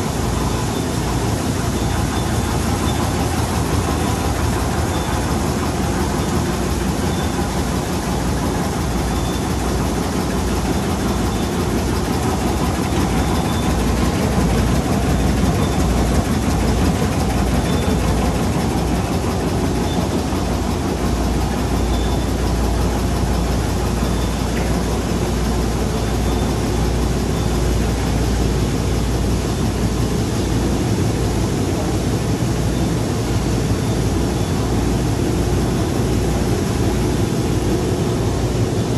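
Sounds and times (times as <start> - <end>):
machine running with mechanical din: 0.0 - 38.9.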